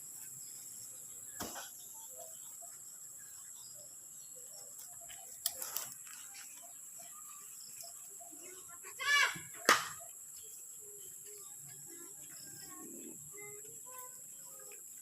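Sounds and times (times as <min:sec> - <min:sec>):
faint bird chirps: 0:00.0 - 0:15.0
insects droning: 0:00.0 - 0:15.0.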